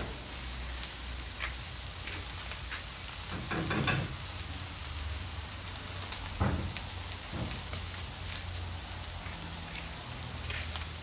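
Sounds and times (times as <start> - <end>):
sausages sizzling on griddle: 0.0 - 11.0.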